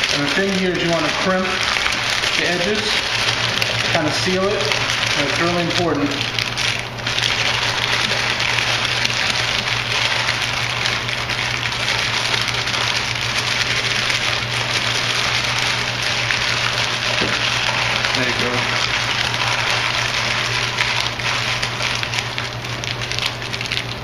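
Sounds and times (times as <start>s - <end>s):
parchment paper crinkling: 0.0s - 24.0s.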